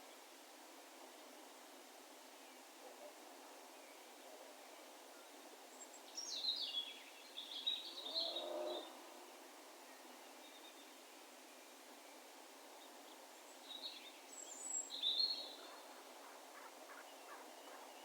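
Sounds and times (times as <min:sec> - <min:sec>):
low background hiss: 0:00.0 - 0:18.0.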